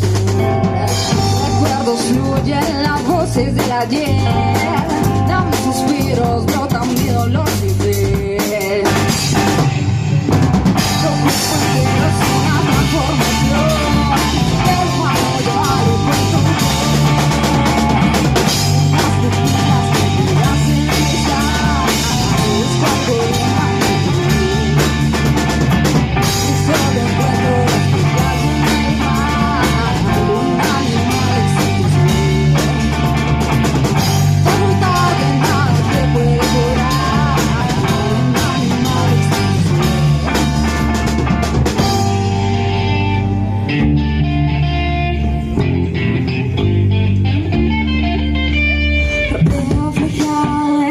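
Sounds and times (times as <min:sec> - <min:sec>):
bass guitar: 0:00.0 - 0:50.9
drum kit: 0:00.0 - 0:50.9
electric guitar: 0:00.0 - 0:50.9.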